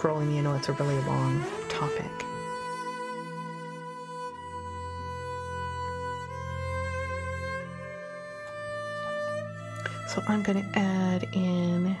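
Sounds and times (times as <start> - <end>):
slow cello music: 0.0 - 12.0.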